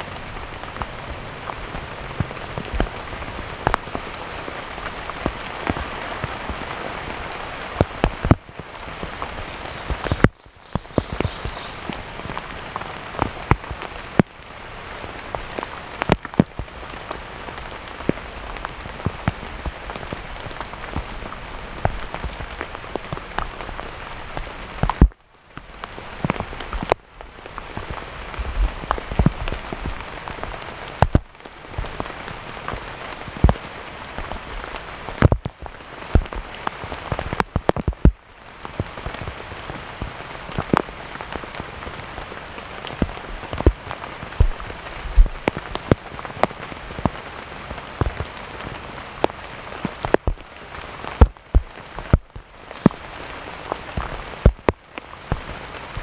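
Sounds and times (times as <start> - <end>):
sharp raindrops striking close: 0.0 - 56.0
steady rain falling: 0.0 - 56.0.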